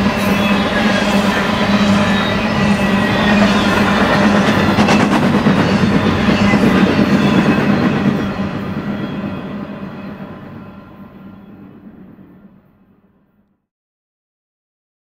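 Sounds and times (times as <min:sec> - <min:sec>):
freight train wheels rumbling: 0:00.0 - 0:12.8.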